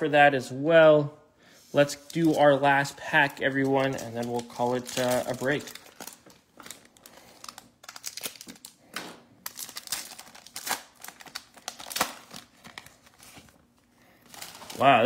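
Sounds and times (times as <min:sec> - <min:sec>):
plastic wrapper crinkling and tearing: 0:02.1 - 0:15.0.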